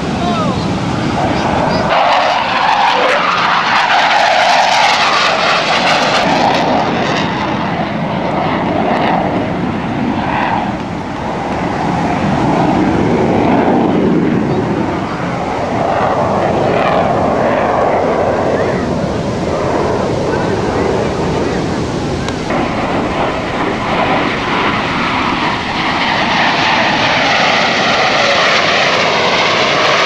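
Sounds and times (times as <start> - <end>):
jet fighters roaring past: 0.0 - 30.0.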